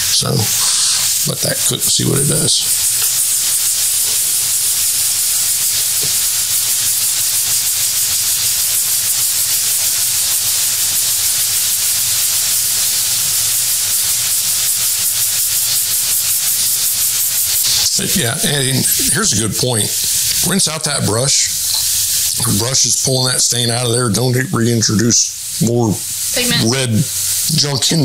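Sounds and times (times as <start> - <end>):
steam iron hissing: 0.0 - 28.0.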